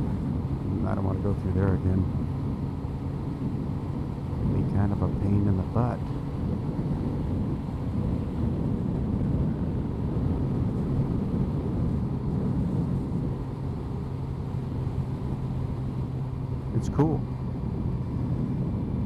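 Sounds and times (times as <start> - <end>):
low wind rumble: 0.0 - 19.0
motorcycle engine running: 0.0 - 19.0.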